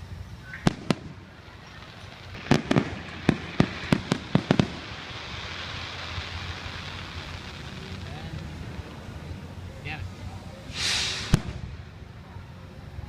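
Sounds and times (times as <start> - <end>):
steady hiss: 0.0 - 13.0
fireworks bangs: 0.4 - 9.7, 10.6 - 12.2.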